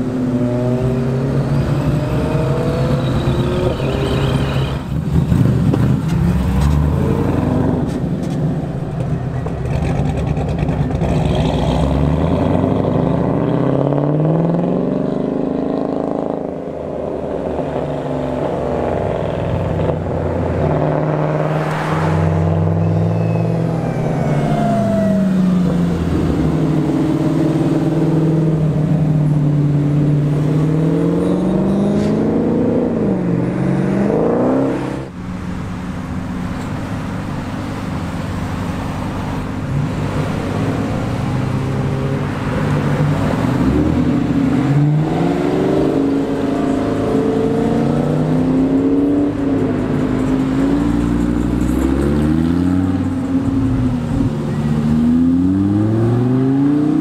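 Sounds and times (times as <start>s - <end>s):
car engines revving past: 0.0s - 57.0s.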